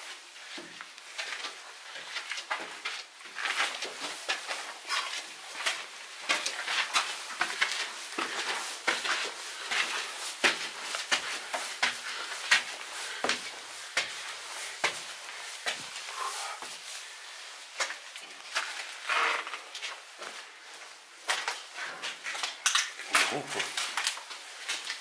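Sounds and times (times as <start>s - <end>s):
footsteps crunching over debris: 0.0s - 25.0s.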